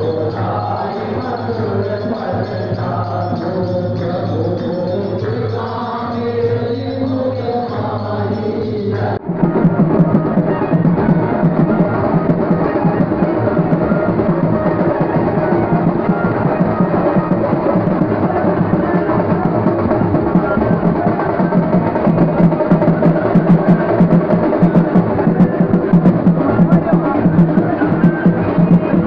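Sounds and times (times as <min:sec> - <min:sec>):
group singing a chant: 0:00.0 - 0:29.0
loud rapid drumming: 0:00.0 - 0:29.0.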